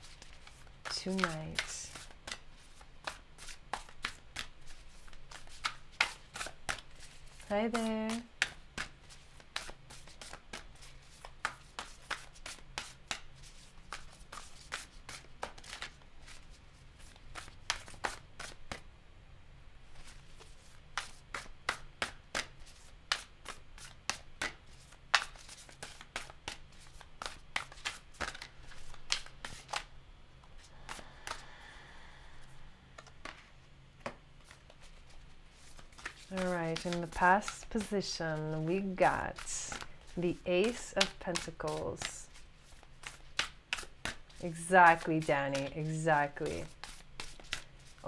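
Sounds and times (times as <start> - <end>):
cards being shuffled: 0.0 - 18.8, 19.9 - 29.9, 33.0 - 48.0.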